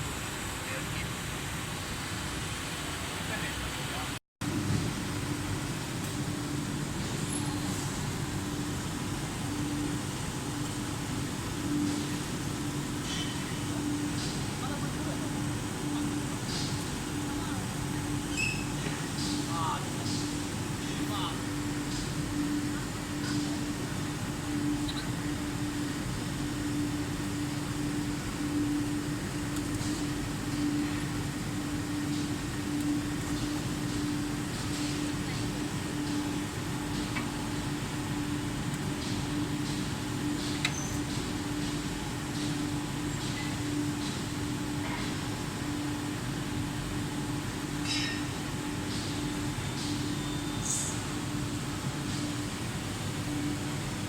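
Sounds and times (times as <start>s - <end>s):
bending machine humming: 3.9s - 54.0s.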